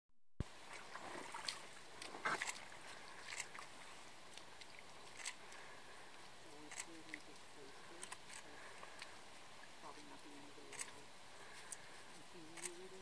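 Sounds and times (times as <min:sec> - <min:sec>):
soft steady hiss: 0:00.4 - 0:13.0
paws splashing in shallow water: 0:00.6 - 0:13.0.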